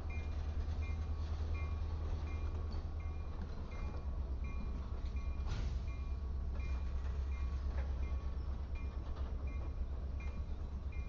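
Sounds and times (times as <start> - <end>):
freight train cars rumbling: 0.0 - 11.0.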